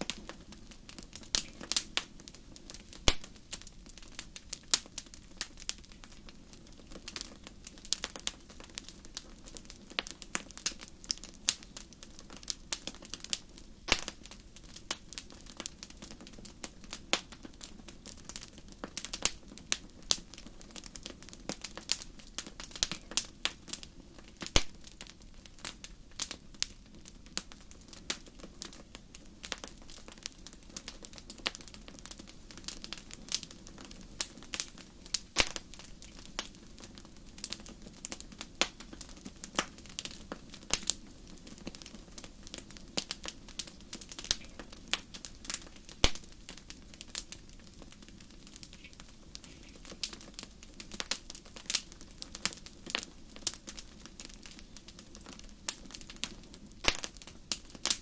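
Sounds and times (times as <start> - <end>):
fireplace fire crackling: 0.0 - 58.0.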